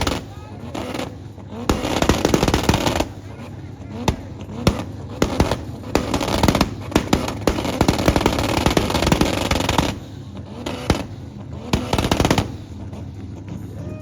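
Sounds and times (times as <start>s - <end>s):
loud sharp pops and bangs: 0.0s - 12.9s.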